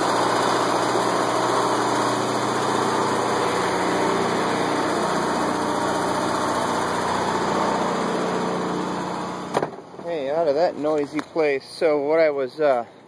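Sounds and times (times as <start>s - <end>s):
generator engine drone: 0.0s - 12.1s.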